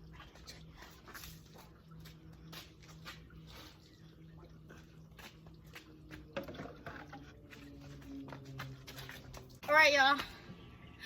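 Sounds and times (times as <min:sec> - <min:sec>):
sponge squishing on car body: 0:00.0 - 0:09.6.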